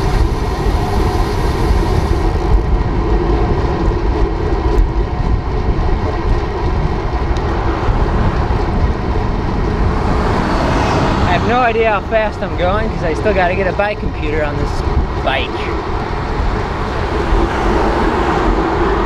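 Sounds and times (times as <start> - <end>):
road and traffic noise: 0.0 - 19.0
wind rush on microphone: 0.0 - 19.0.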